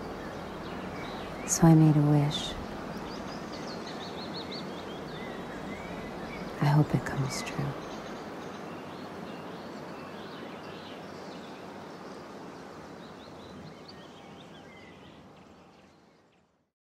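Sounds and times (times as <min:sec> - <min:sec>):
steady background hiss: 0:00.0 - 0:16.7.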